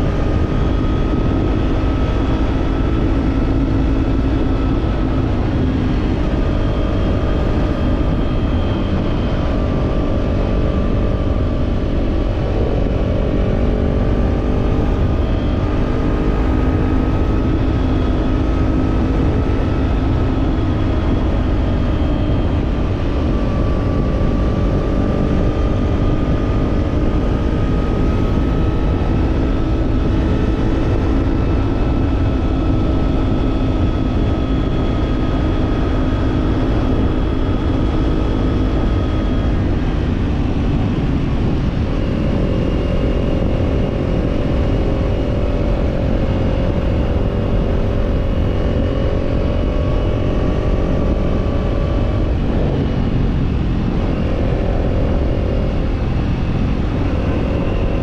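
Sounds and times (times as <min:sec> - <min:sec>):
motorcycle engine cruising: 0:00.0 - 0:58.0
wind rumble: 0:00.0 - 0:58.0.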